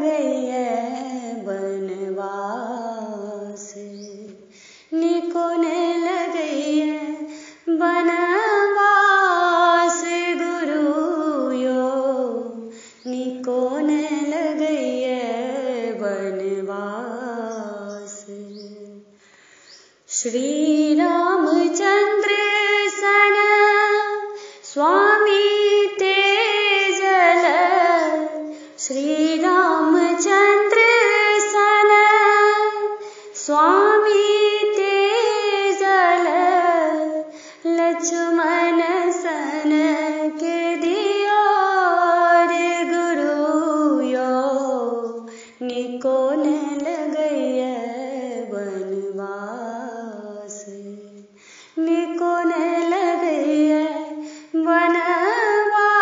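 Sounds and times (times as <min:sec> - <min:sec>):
woman singing devotional song: 0:00.0 - 0:56.0.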